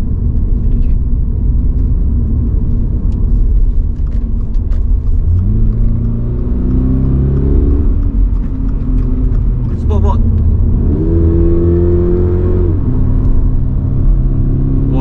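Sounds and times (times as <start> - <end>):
car engine accelerating: 0.0 - 15.0
road and tyre rumble: 0.0 - 15.0.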